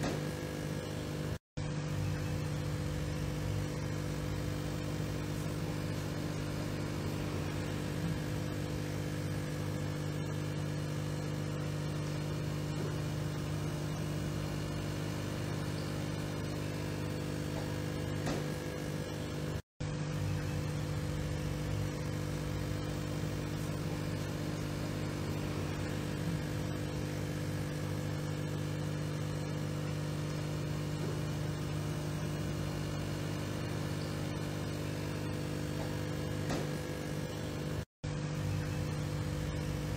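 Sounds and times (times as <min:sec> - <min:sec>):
aquarium pumps humming: 0:00.0 - 0:39.9.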